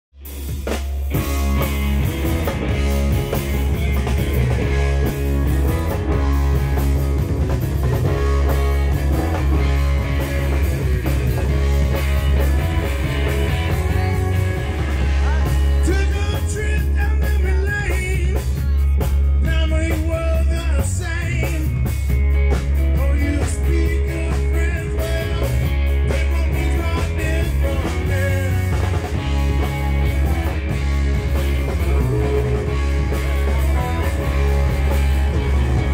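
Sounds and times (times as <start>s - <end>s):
blues rock band playing: 0.2s - 35.9s.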